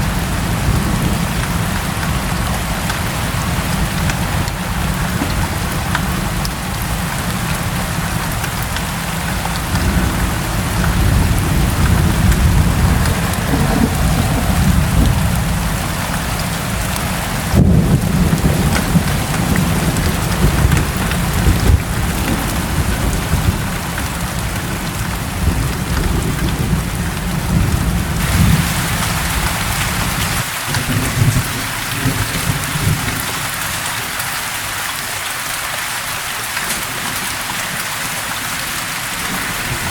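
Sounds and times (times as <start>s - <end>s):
thunder rumbling: 0.0s - 33.5s
steady rain falling: 0.0s - 39.9s.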